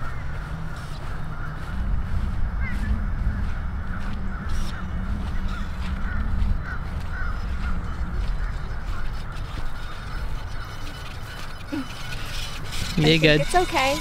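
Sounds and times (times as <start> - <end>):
birds calling: 0.0 - 14.0
wind rumbling on microphone: 0.0 - 14.0.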